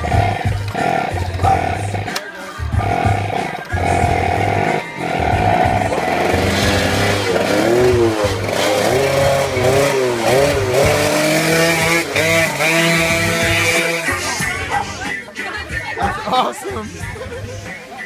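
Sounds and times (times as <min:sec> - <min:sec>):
motorcycle engine revving hard: 0:00.0 - 0:14.8
background music: 0:00.0 - 0:18.0.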